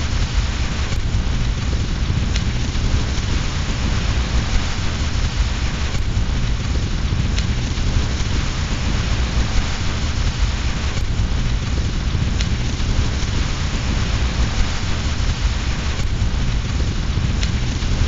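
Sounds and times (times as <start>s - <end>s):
low rumble: 0.0s - 18.0s
steady rain: 0.0s - 18.0s
wood fire crackling: 0.0s - 18.0s.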